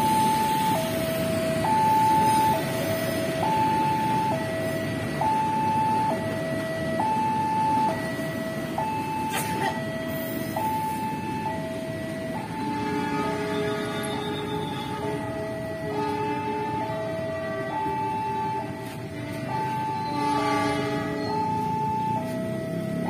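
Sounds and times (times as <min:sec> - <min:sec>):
level-crossing two-tone alarm: 0:00.0 - 0:23.0
traffic noise: 0:00.0 - 0:23.0
train noise: 0:00.0 - 0:23.0.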